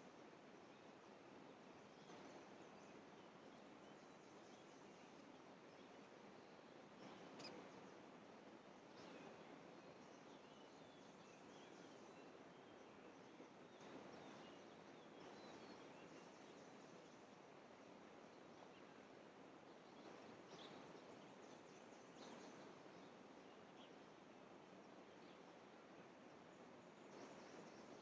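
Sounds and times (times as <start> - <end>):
faint outdoor hiss: 0.0 - 28.0.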